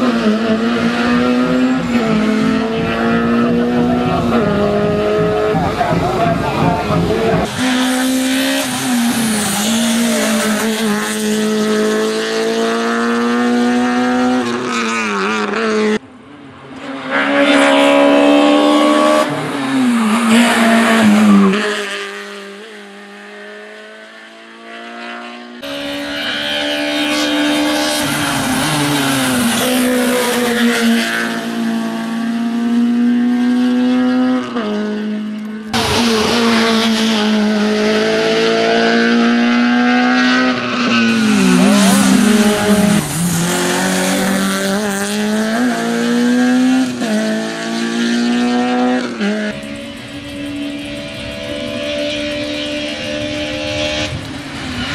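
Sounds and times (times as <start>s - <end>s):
race car engine at high revs: 0.0s - 54.9s.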